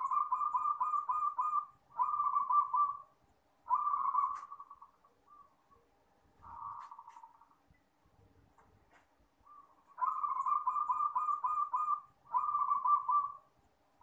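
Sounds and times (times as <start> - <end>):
dove trilled cooing: 0.0 - 7.6, 9.4 - 13.5.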